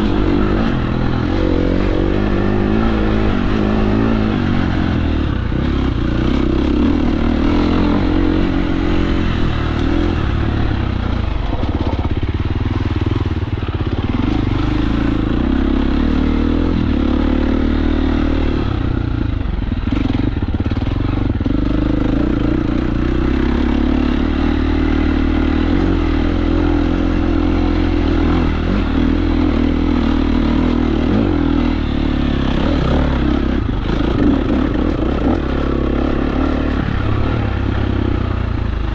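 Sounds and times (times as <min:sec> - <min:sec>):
dirt bike engine revving: 0:00.0 - 0:38.9
wind: 0:00.0 - 0:38.9.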